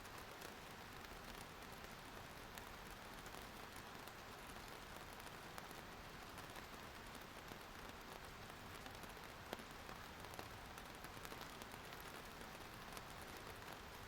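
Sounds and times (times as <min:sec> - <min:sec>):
raindrop ticks: 0:00.1 - 0:14.0.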